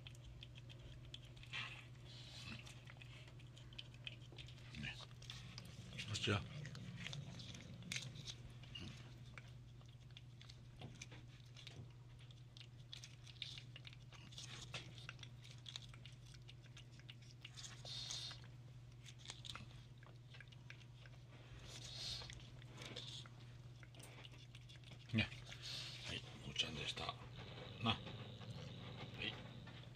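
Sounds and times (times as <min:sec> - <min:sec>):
cat licking and smacking: 0:00.0 - 0:29.9
steady low hum: 0:00.0 - 0:29.9.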